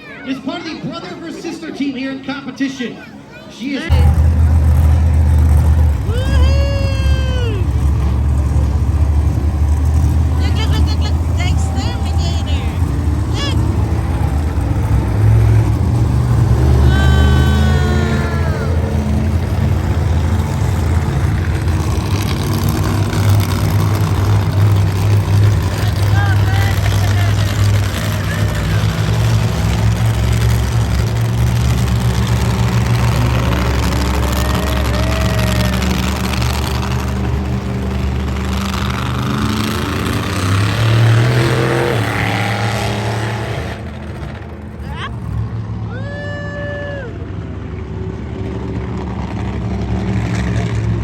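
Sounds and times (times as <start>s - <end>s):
truck engine rumbling: 0.0s - 51.0s.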